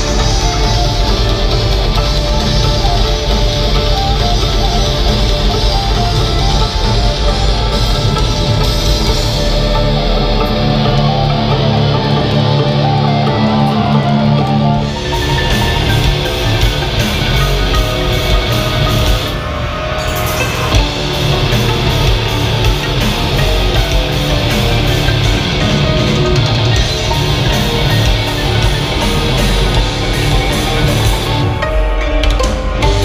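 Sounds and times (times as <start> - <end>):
drums and cymbals: 0.0 - 13.0, 14.5 - 33.0
distorted electric guitars: 0.0 - 33.0
metal band playing live: 0.0 - 33.0.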